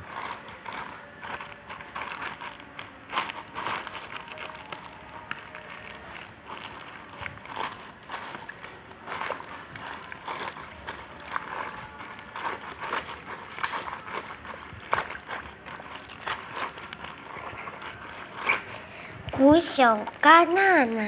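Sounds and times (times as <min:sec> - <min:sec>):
slime squeezed by hands: 0:00.0 - 0:21.0.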